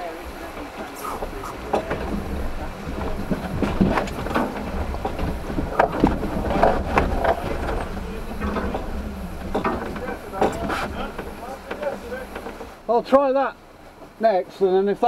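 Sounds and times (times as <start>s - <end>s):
engine running low under load: 0.0s - 13.0s
car body clattering and knocking: 0.5s - 13.0s.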